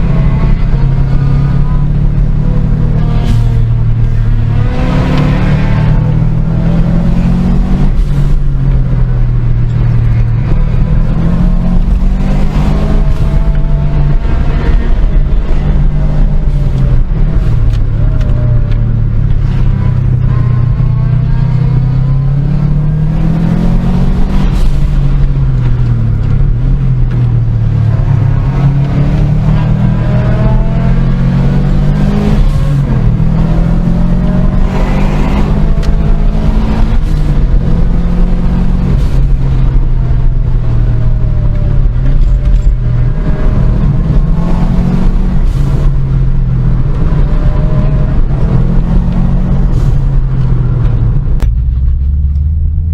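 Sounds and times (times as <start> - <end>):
car engine running: 0.0 - 52.9
road and wind noise: 0.0 - 52.9.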